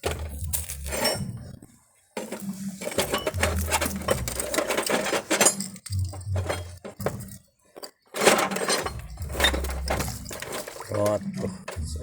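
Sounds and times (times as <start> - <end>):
hard objects clinking and knocking: 0.0 - 1.3, 2.2 - 11.9.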